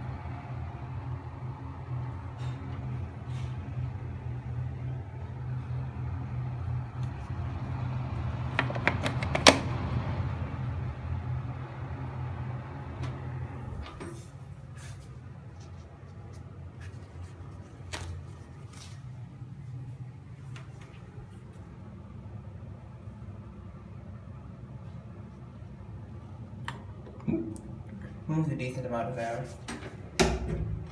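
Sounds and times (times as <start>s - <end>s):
exhaust fan motor hum: 0.0s - 30.9s.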